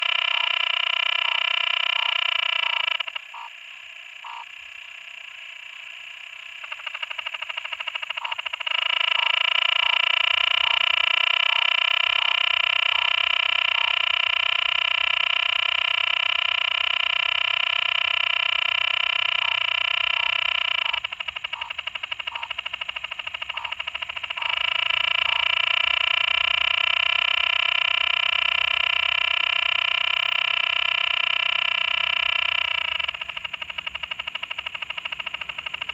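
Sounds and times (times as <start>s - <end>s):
frog calling: 0.0s - 35.9s.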